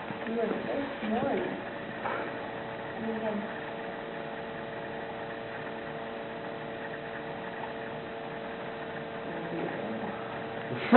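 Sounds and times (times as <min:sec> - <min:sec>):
steady electrical hum: 0:00.0 - 0:10.9.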